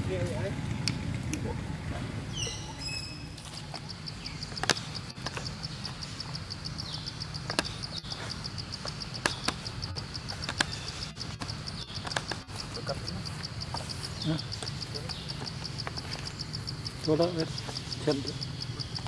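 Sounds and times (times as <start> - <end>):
insect chirping rapidly: 1.5 - 19.0
sharp clicks: 3.4 - 19.0.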